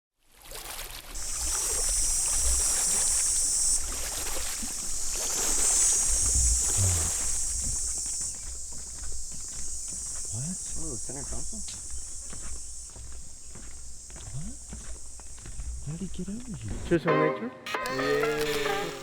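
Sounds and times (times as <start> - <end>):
high insect chorus: 1.2 - 17.0, 17.9 - 19.0.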